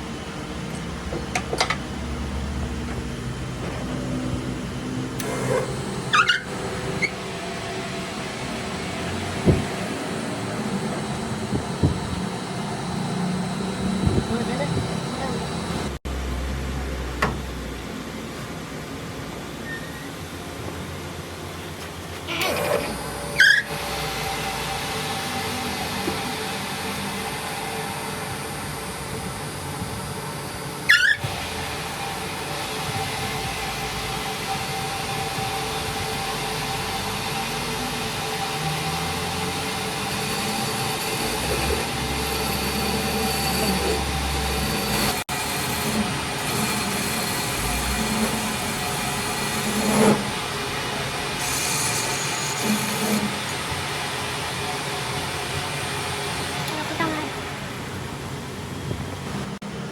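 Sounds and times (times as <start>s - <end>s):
metalworking machine whining: 0.0s - 59.9s.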